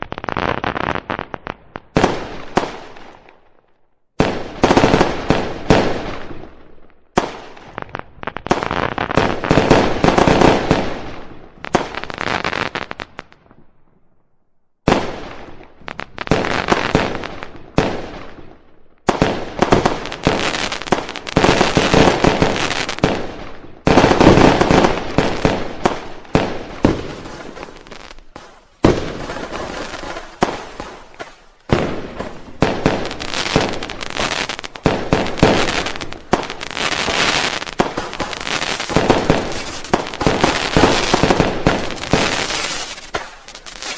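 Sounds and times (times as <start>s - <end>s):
fireworks bangs and crackles: 0.0s - 13.8s, 14.8s - 43.9s.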